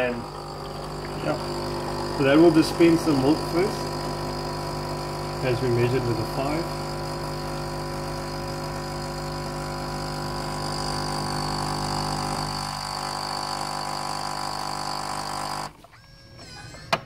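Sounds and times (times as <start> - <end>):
milk dispensing into glass: 0.0 - 15.7
coffee machine pump humming: 0.0 - 15.8.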